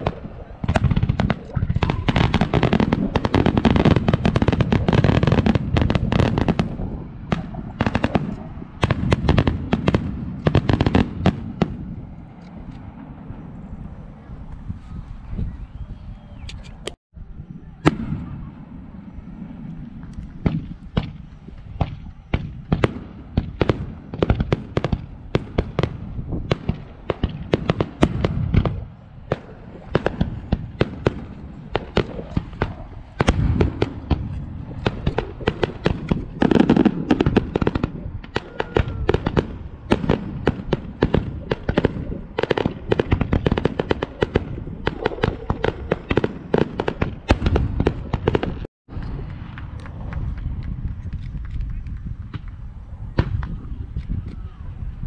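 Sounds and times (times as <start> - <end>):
fireworks bangs and crackles: 0.0 - 14.8, 17.8 - 55.0.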